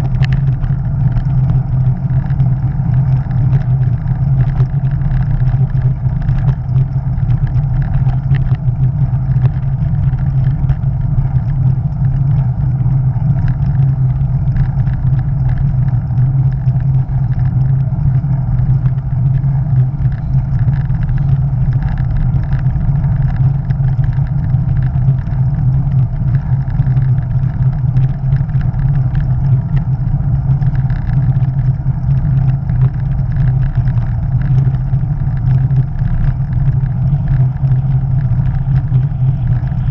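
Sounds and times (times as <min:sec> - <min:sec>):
tyres on asphalt: 0:00.0 - 0:39.9
wind buffeting microphone: 0:00.0 - 0:39.9.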